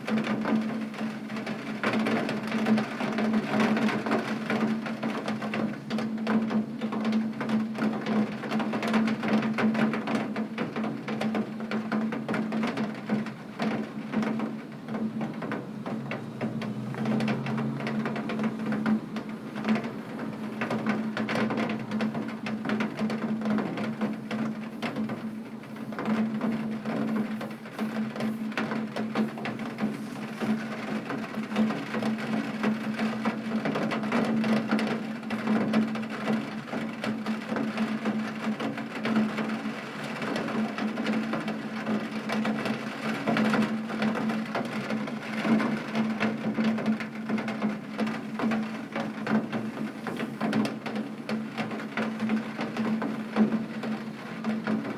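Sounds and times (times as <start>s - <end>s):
heavy rain on a window: 0.0s - 54.9s.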